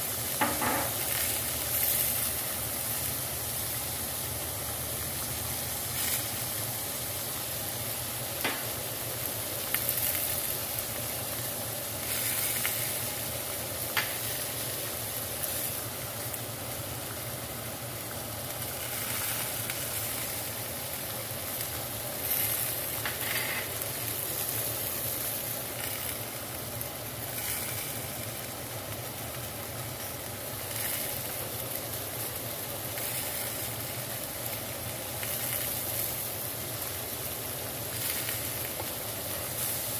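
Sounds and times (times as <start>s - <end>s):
food sizzling in a skillet: 0.0s - 39.9s.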